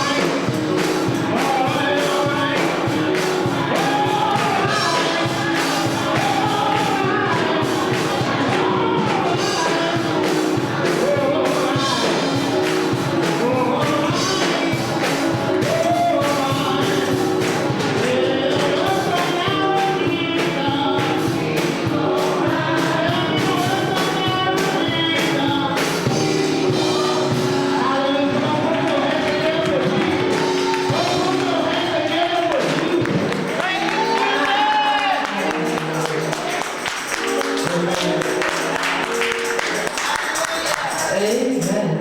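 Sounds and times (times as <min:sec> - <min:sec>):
choir singing gospel: 0:00.0 - 0:42.0
instrumental backing: 0:00.0 - 0:42.0
percussion beat: 0:00.0 - 0:42.0.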